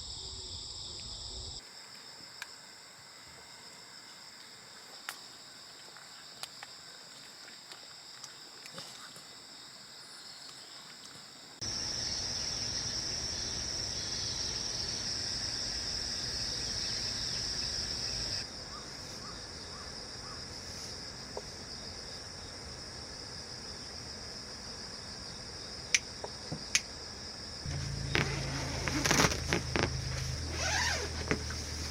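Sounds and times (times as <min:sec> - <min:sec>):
insect chorus: 0:00.0 - 0:31.9.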